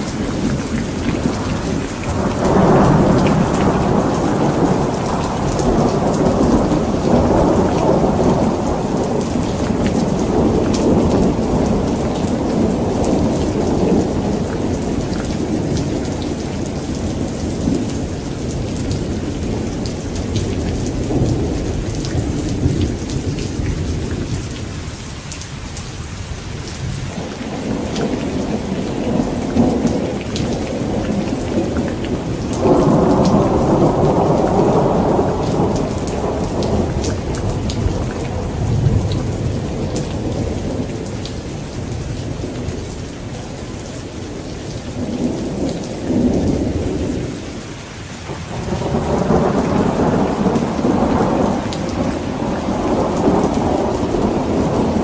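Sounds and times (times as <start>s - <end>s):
rolling thunder: 0.0s - 24.7s, 26.8s - 47.4s, 48.2s - 55.0s
steady rain: 0.0s - 55.0s.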